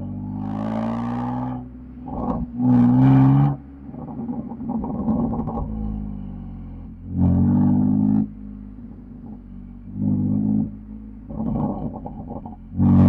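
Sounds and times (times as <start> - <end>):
car exhaust revving: 0.0 - 13.0.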